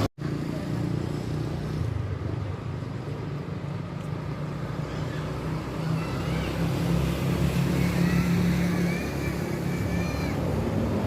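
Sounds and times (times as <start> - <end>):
traffic noise: 0.0 - 11.0
vehicle engine humming: 0.0 - 11.0.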